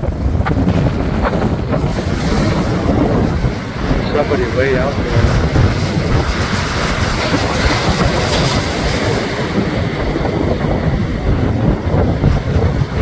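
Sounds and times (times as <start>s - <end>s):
surf breaking on rocks: 0.0s - 13.0s
wind buffeting microphone: 0.0s - 13.0s.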